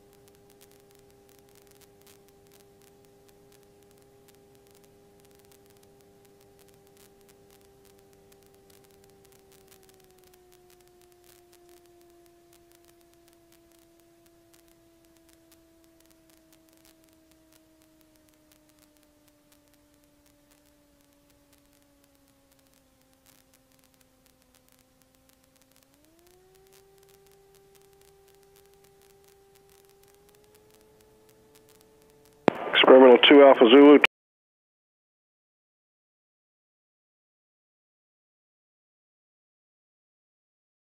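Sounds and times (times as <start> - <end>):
faint electrical whine: 0.0 - 34.1.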